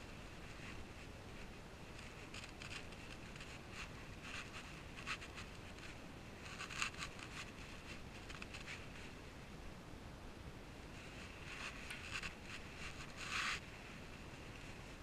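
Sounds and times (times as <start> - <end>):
soft rustling and scratching: 0.0 - 9.4, 10.9 - 15.0
steady faint hiss: 0.0 - 15.0.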